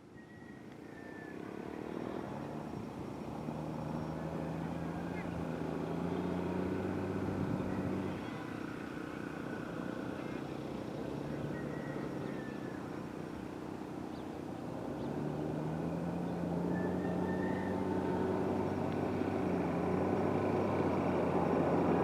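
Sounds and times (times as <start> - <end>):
locomotive diesel engine humming: 0.0 - 22.0.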